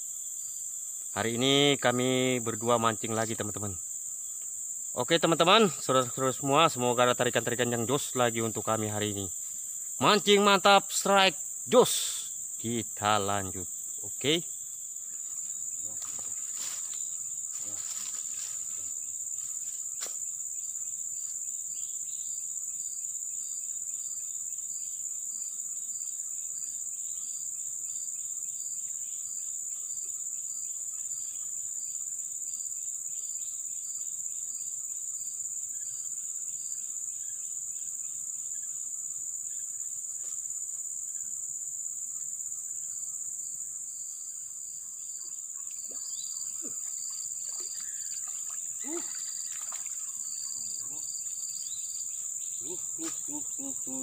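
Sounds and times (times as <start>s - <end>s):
insects droning: 0.0s - 54.0s
pulsing insect call: 0.0s - 54.0s.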